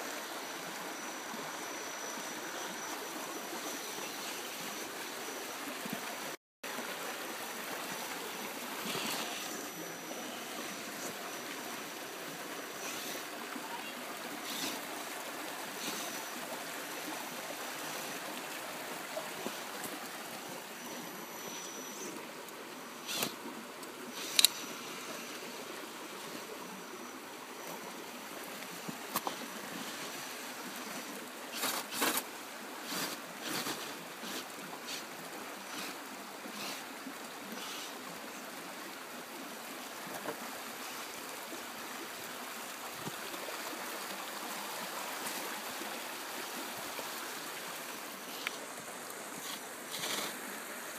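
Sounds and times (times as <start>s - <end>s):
flowing stream: 0.0s - 50.9s.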